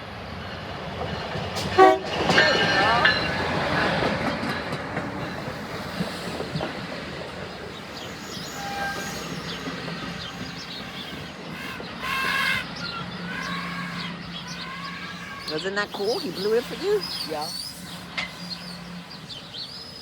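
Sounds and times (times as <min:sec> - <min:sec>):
train wheels clickety-clack: 0:00.6 - 0:20.0.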